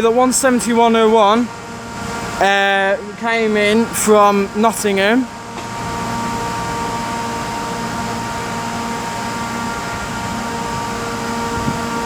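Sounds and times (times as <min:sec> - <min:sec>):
held tones from trains: 0:00.0 - 0:12.0
mechanical hum: 0:00.0 - 0:12.0.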